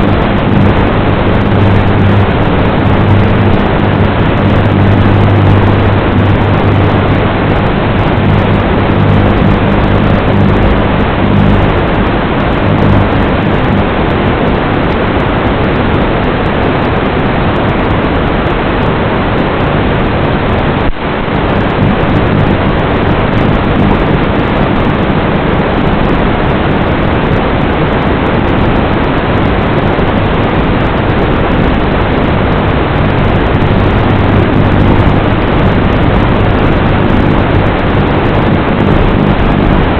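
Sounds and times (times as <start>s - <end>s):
low hum: 0.0s - 39.9s
static hiss: 0.0s - 39.9s.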